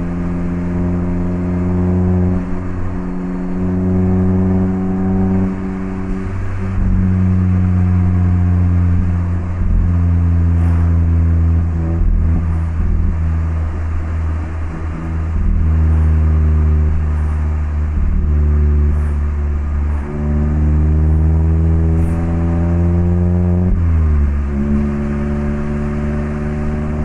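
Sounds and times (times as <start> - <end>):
car exhaust while driving: 0.0 - 27.0.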